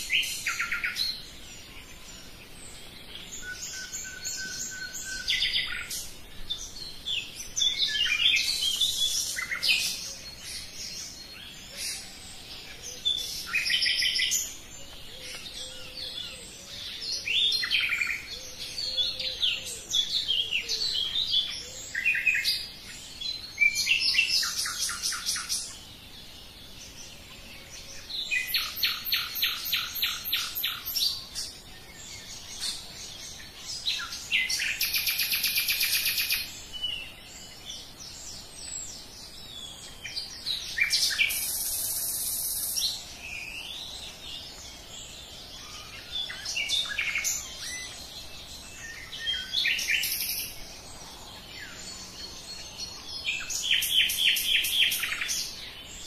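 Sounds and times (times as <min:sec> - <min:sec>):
nightingale singing: 0:00.0 - 0:56.0.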